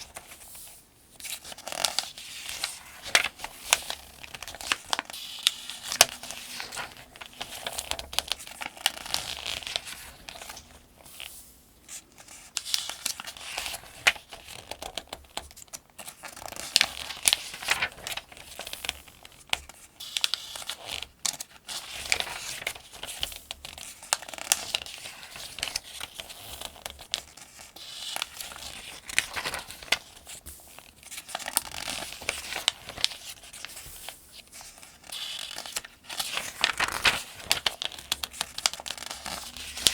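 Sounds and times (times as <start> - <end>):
pages turning with paper rustle: 0.0 - 39.9.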